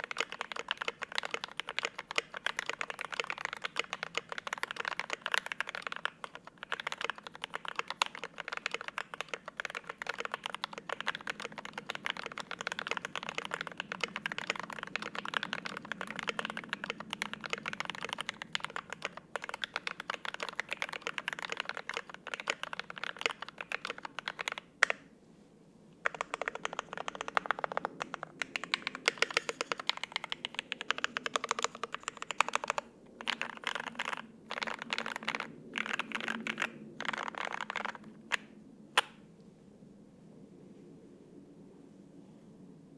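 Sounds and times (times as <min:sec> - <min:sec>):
fast mechanical keyboard typing: 0:00.0 - 0:25.0, 0:26.0 - 0:38.5.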